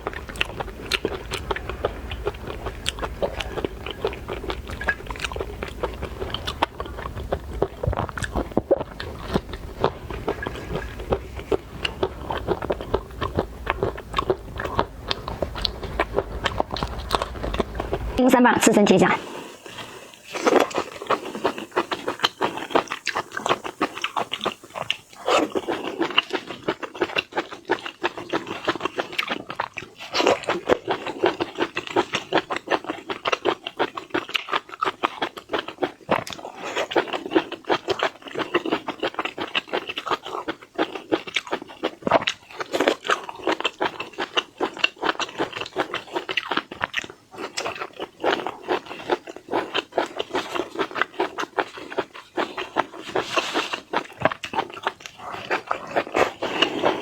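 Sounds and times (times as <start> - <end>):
crunching and chewing food: 0.0 - 18.2, 19.2 - 57.0.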